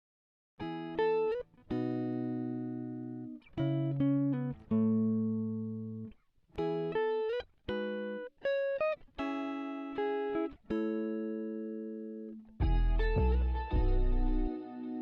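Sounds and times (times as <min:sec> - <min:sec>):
plucked guitar music: 0:00.6 - 0:15.0.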